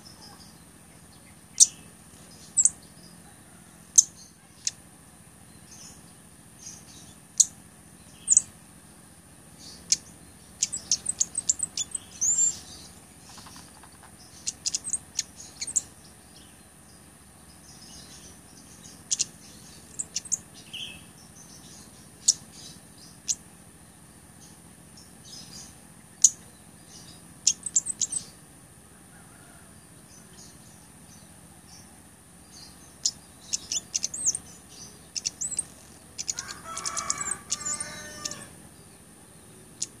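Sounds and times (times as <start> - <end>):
bird chip calls and chittering: 0.0 - 3.2, 3.9 - 4.8, 5.5 - 8.5, 9.6 - 23.4, 24.4 - 28.4, 32.5 - 40.0.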